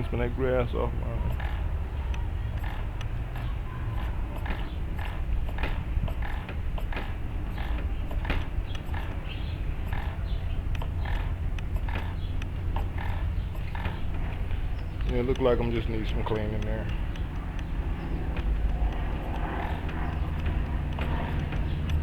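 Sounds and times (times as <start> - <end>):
steady low rumble: 0.0 - 22.0
small creaks and clicks: 1.3 - 22.0.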